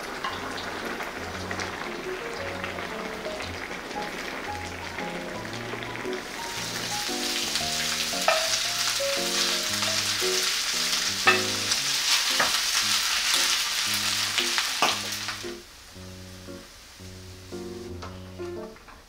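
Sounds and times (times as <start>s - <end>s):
rice sizzling on griddle: 0.0s - 18.0s.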